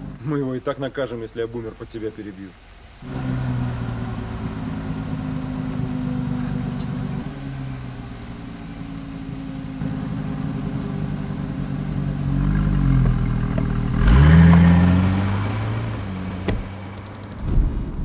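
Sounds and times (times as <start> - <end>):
car engine idling and revving: 0.0 - 1.0, 2.6 - 18.0.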